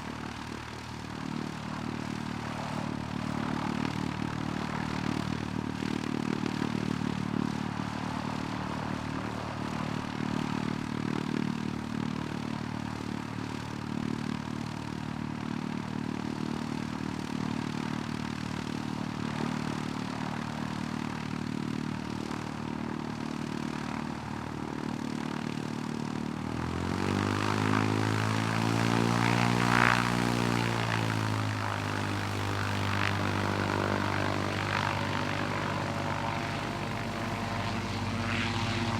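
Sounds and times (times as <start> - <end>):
propeller aircraft engine: 0.0 - 38.9.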